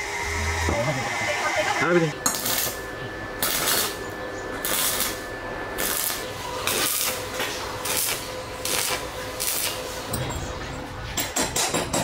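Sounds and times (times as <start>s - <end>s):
welding arc crackling and hissing: 0.0s - 11.7s.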